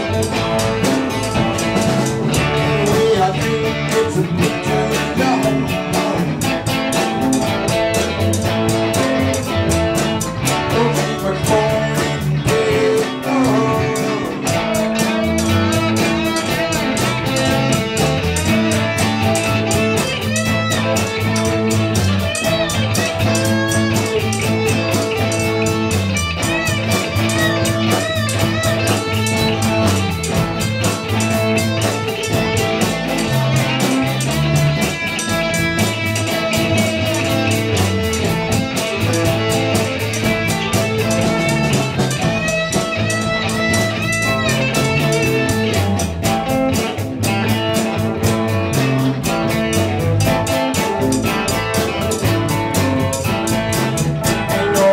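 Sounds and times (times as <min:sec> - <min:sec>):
bass guitar: 0:00.0 - 0:54.9
electric guitar: 0:00.0 - 0:54.9
keyboard: 0:00.0 - 0:54.9
steady drum beat: 0:00.0 - 0:54.9.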